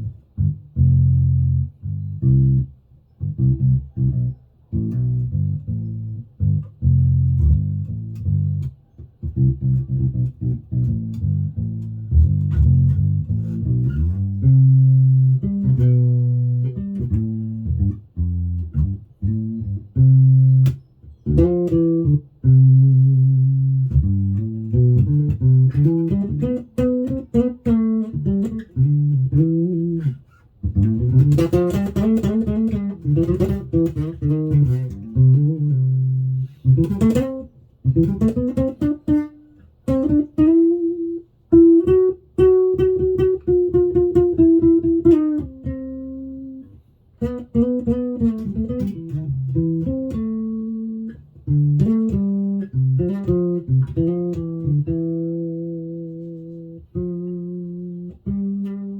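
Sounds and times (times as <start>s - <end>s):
electric bass plucked notes: 0.0s - 58.9s.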